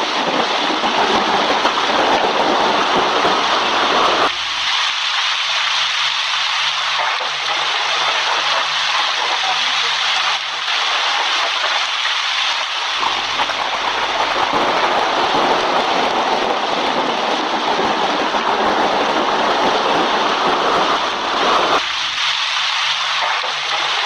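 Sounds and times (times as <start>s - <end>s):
deep loud noise layer: 0.0s - 24.0s
heavy rain: 0.0s - 24.0s.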